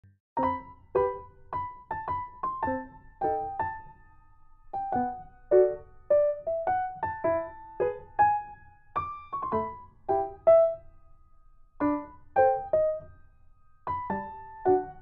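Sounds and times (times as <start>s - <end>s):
light keyboard melody: 0.4s - 11.2s, 11.8s - 15.0s.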